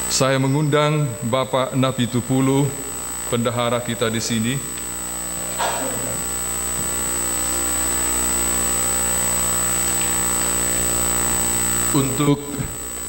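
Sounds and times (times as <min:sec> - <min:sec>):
electrical mains hum: 0:00.0 - 0:13.0
high-pitched whine: 0:00.0 - 0:13.0.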